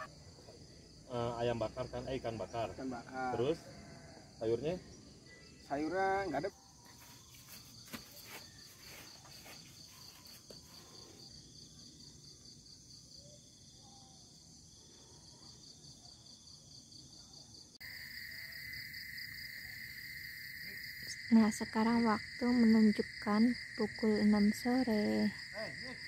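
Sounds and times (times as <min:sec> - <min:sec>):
continuous insect drone: 0:00.0 - 0:26.0
insects chirping: 0:00.0 - 0:26.0.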